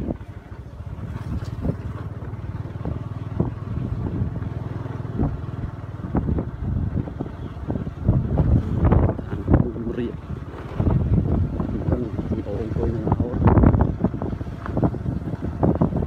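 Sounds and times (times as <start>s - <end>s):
thumps over rough road: 0.0s - 12.0s, 13.1s - 16.0s
small motorcycle engine running: 0.0s - 16.0s.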